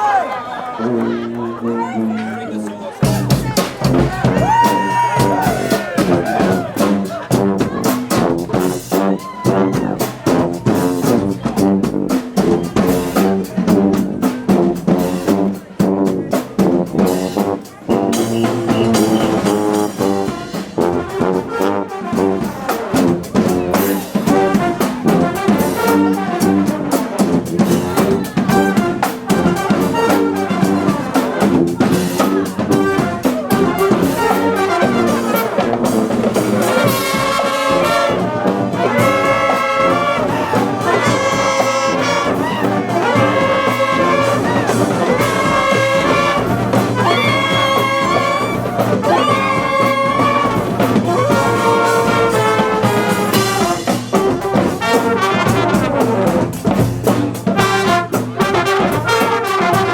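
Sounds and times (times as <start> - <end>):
brass marching band: 0.0 - 59.9.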